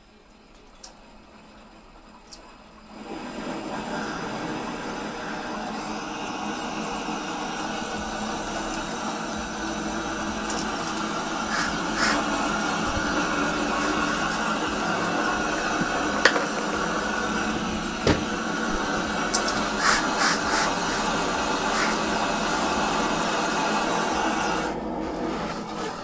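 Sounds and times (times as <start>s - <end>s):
steady hissing: 0.0s - 26.0s.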